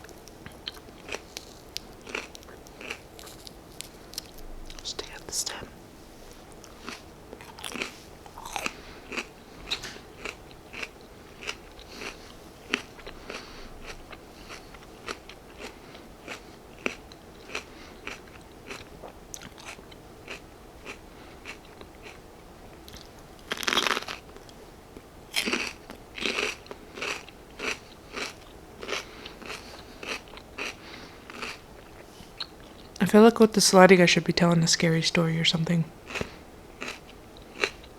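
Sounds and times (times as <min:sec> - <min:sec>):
chewing crisp bell pepper: 0:00.0 - 0:04.8, 0:06.5 - 0:33.0, 0:36.0 - 0:37.9.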